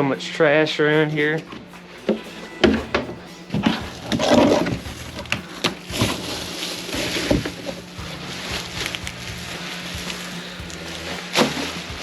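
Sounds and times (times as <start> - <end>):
trash crinkling and crushing: 1.2 - 12.0
trash knocking and clattering: 1.5 - 12.0.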